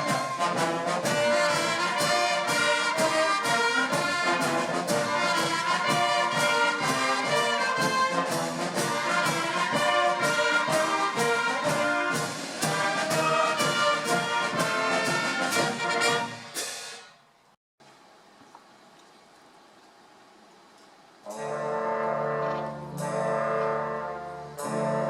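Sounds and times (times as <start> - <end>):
brass band playing: 0.0 - 17.2, 21.2 - 25.0.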